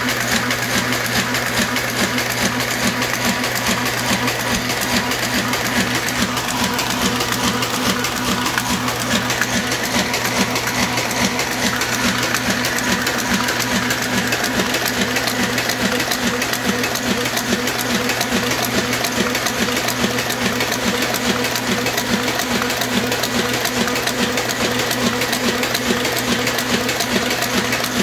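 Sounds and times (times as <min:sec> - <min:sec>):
printing press gears clacking: 0:00.0 - 0:28.0.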